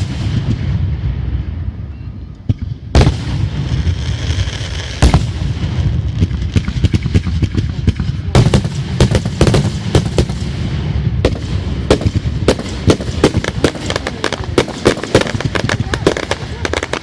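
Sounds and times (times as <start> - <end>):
fireworks cracking and banging: 0.0 - 1.8, 2.4 - 17.0.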